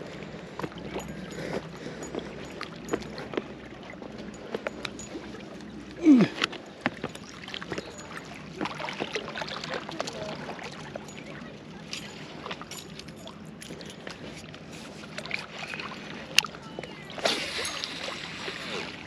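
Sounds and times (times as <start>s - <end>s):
water lapping against hull: 0.0s - 19.0s.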